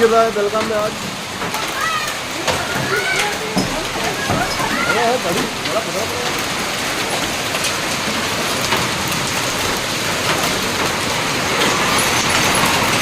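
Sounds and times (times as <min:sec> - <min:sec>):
hail impacts ticking: 0:00.0 - 0:13.0
heavy rain hissing: 0:00.0 - 0:13.0.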